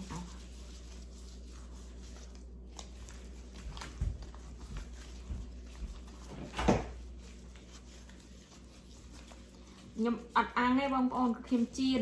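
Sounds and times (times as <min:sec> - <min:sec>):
wet squishing of meat mixed by hand: 0:00.0 - 0:12.0.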